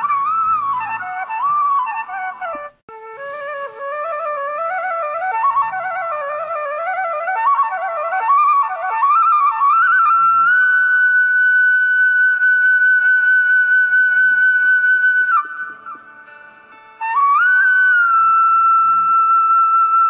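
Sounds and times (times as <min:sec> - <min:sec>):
instrumental music: 0:00.0 - 0:20.0.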